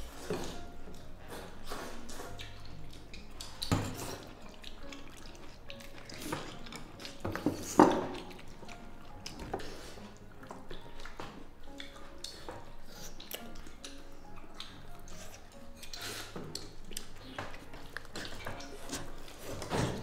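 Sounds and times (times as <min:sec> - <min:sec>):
soup splashing and dripping: 0:02.0 - 0:19.3.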